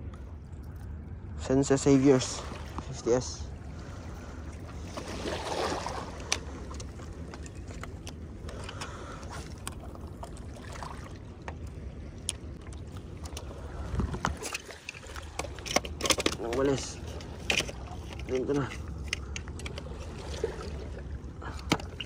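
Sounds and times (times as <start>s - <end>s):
low rumble of wind: 0.0s - 22.0s
water rumble: 0.0s - 22.0s.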